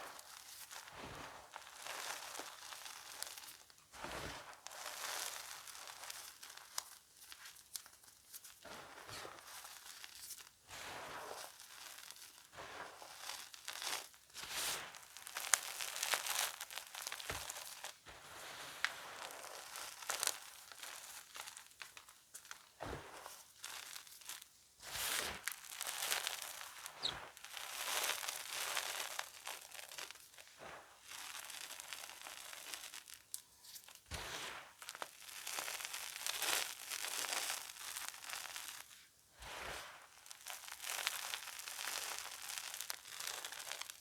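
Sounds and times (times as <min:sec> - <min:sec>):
chalk crunching by hand: 0:08.6 - 0:44.0.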